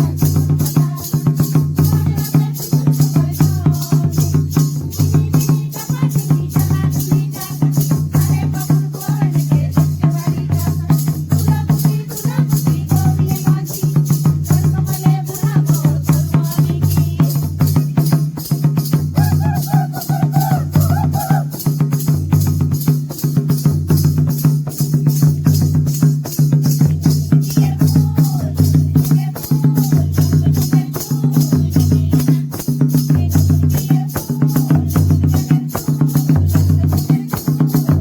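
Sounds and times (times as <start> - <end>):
shaker rattle: 0.0 - 38.0
steady drum beat: 0.0 - 38.0.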